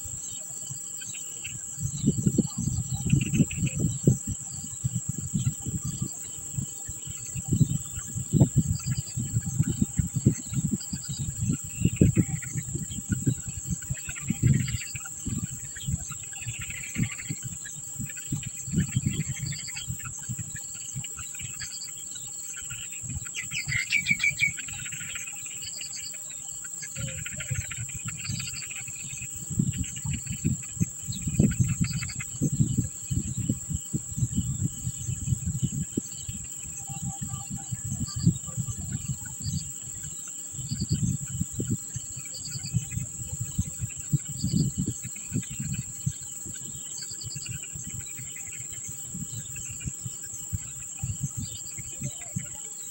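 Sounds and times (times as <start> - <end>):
bird calls: 0.0 - 33.4, 34.7 - 52.9
insects trilling: 0.0 - 52.9.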